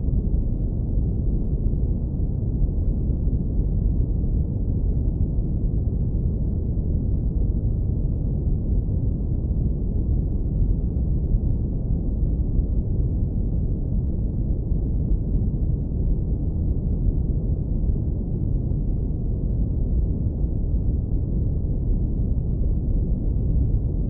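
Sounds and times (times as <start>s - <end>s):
deep brown noise rumble: 0.0s - 24.0s.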